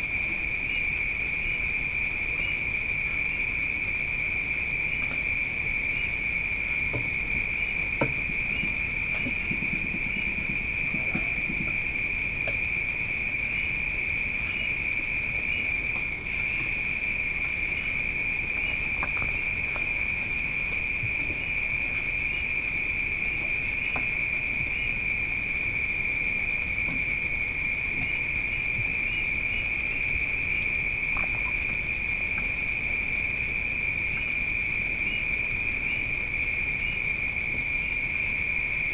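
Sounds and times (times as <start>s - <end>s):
night insects chirring: 0.0s - 38.9s.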